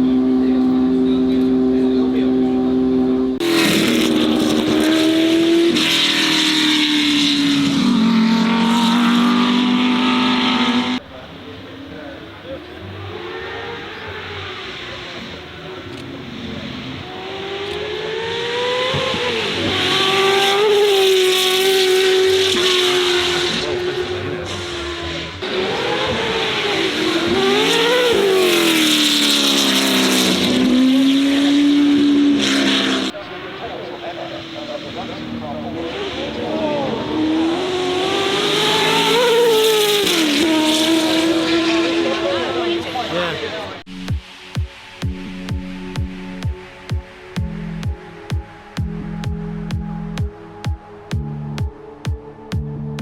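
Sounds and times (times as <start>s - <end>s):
loud v eight engine revving: 0.0s - 11.0s, 12.4s - 44.1s.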